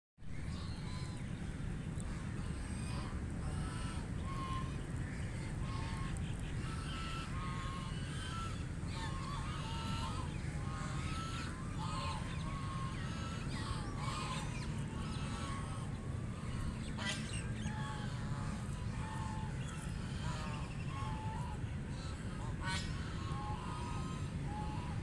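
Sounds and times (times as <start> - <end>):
steady low rumble: 0.2 - 25.0
ducks quacking: 2.0 - 25.0.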